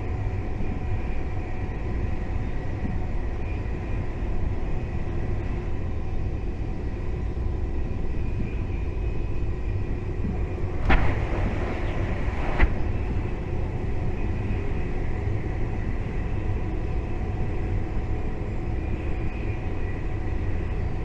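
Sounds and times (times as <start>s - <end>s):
train rumble with whine: 0.0s - 21.0s.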